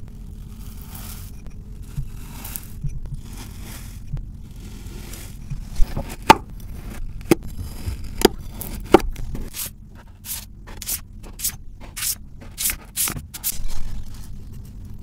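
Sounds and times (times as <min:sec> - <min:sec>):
fork scraping sand: 0:00.2 - 0:14.4.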